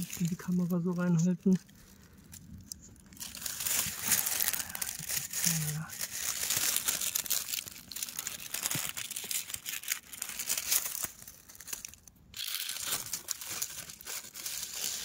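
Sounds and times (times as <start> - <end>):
close rustling and crackling: 0.0 - 15.0.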